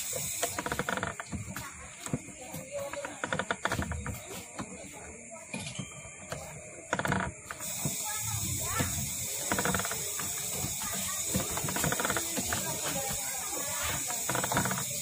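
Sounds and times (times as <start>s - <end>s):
coil-winding machine gears ticking: 0.0s - 4.0s, 6.3s - 15.0s
steady high hiss: 0.0s - 15.0s.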